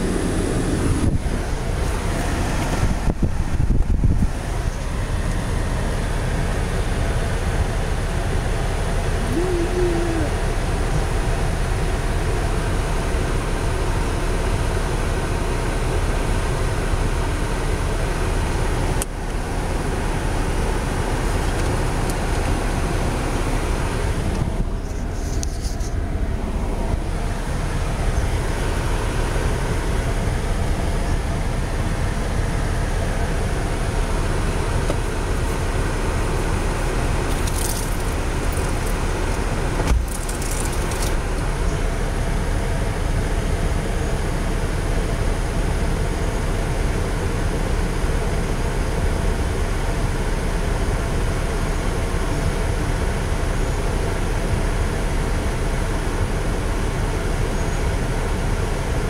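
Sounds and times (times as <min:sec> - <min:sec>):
car running from inside cabin: 0:00.0 - 0:59.0.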